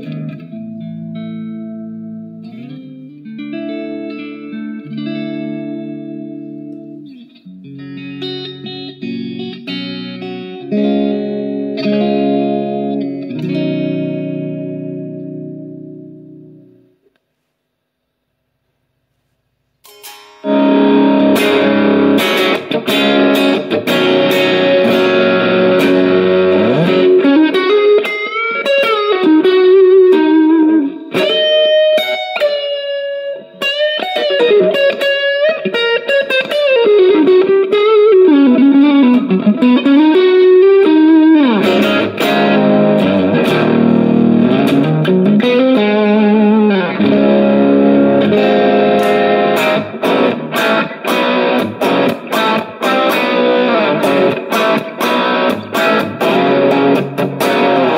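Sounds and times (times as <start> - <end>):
electric guitar chords and lead: 0.0 - 17.0, 19.8 - 57.9.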